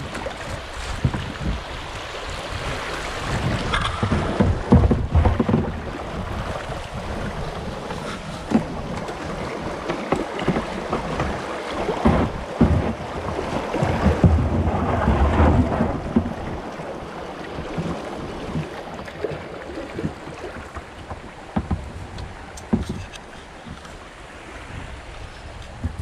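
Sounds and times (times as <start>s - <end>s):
light knocks and splashes: 0.0s - 26.0s
wind buffeting microphone: 0.0s - 26.0s.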